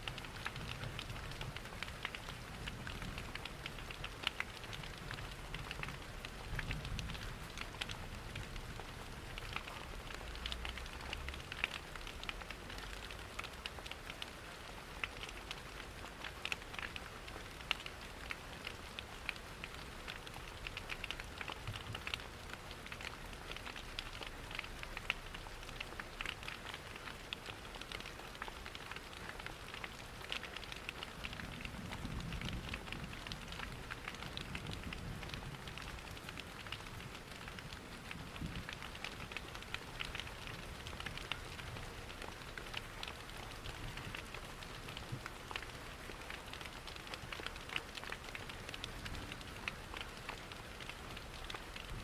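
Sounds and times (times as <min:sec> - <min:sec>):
rain pattering: 0:00.0 - 0:52.0
wood fire crackling: 0:00.1 - 0:52.0.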